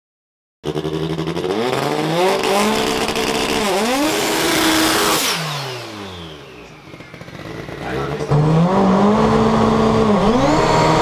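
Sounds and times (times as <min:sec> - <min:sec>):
car engine revving hard: 0:00.6 - 0:11.0.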